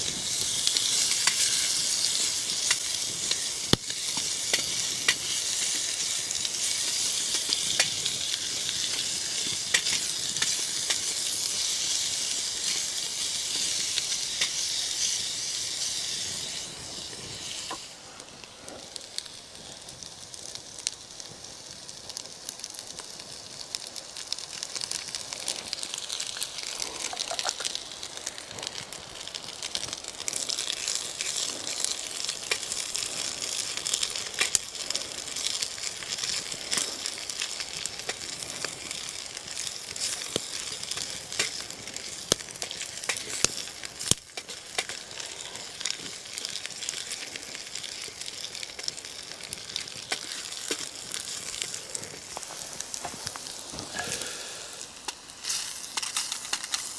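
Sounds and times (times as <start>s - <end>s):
stir-fry sizzling in a pan: 0.0s - 18.2s, 23.8s - 56.9s.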